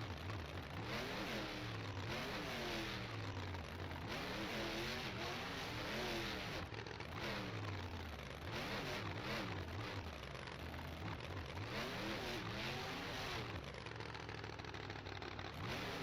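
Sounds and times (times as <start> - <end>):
monster truck engine revving: 0.0 - 16.0.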